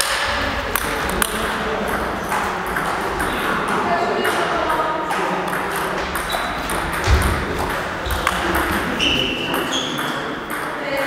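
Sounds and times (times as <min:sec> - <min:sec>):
table tennis ball ticking: 0:00.8 - 0:10.8.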